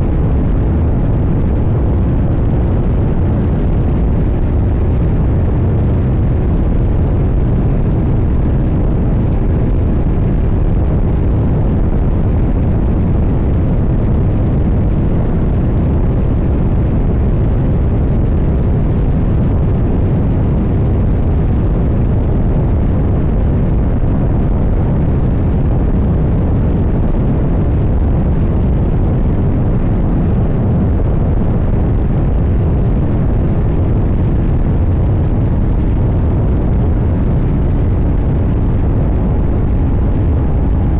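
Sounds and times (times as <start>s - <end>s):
wind rumble: 0.0s - 40.9s.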